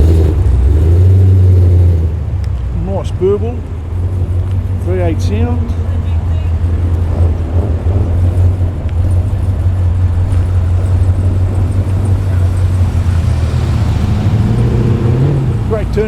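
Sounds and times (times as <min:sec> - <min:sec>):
car engine burbling: 0:00.0 - 0:16.0.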